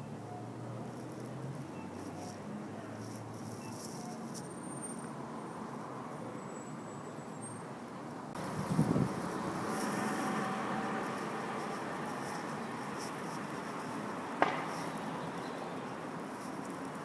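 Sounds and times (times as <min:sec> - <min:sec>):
distant street traffic hum: 0:00.0 - 0:17.0.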